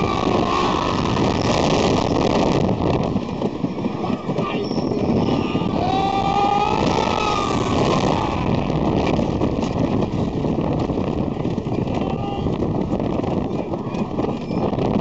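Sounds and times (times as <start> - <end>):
roller coaster wheels clattering: 0.0 - 15.0
wind rushing: 0.0 - 15.0.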